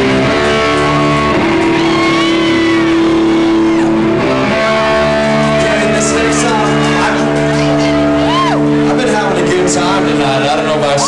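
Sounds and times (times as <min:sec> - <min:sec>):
guitar chords ringing: 0:00.0 - 0:11.0.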